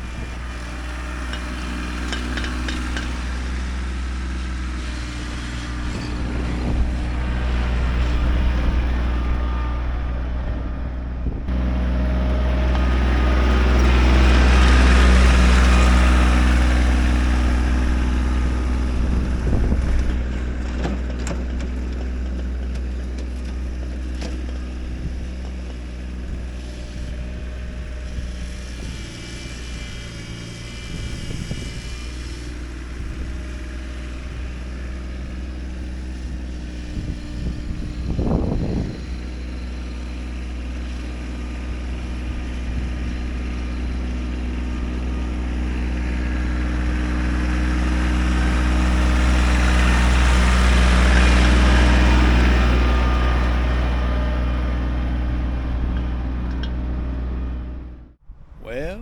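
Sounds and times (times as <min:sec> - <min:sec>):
tractor diesel engine running: 0:00.0 - 0:58.2.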